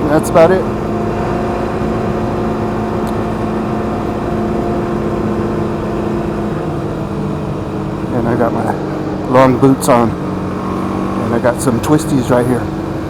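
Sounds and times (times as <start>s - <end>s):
motorcycle engine cruising: 0.0s - 13.0s
road noise: 0.0s - 13.0s.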